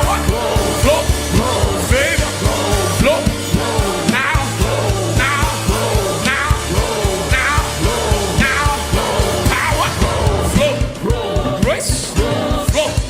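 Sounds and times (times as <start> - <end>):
upbeat music with drum beat: 0.0 - 13.0.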